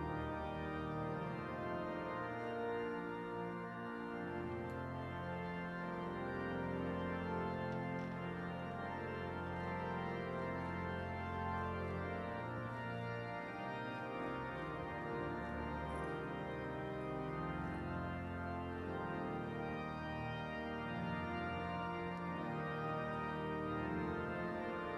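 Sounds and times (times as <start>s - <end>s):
pipe organ slow chords: 0.0s - 24.9s.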